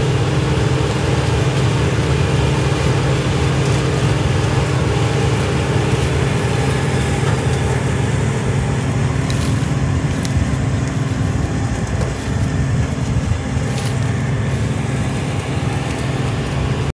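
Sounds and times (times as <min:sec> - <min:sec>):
harvester engine humming: 0:00.0 - 0:16.9.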